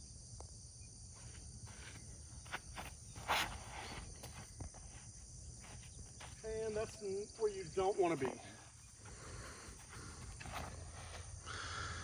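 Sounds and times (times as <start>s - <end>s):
crickets and insects chirping: 0.0s - 12.0s
faint footsteps: 1.1s - 11.4s.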